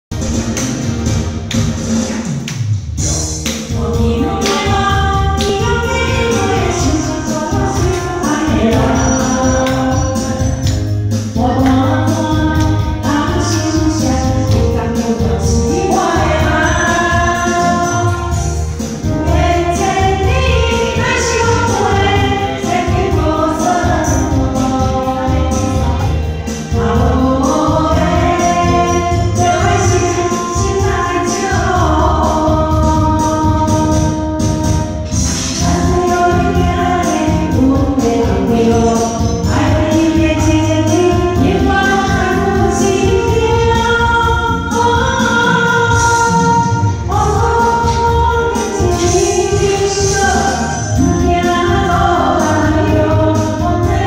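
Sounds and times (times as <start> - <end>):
backing track with steady beat: 0.1 - 54.0
woman singing pop song: 3.7 - 35.0, 35.6 - 54.0.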